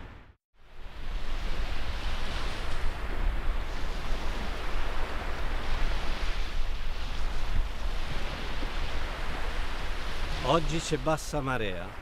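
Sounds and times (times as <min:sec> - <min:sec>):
wind rumbling on microphone: 0:00.0 - 0:11.0
surf washing on a sandy beach: 0:00.7 - 0:12.0.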